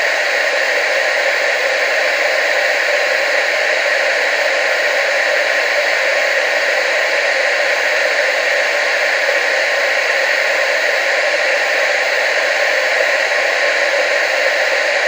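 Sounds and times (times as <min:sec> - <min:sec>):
television static hiss: 0:00.0 - 0:15.0.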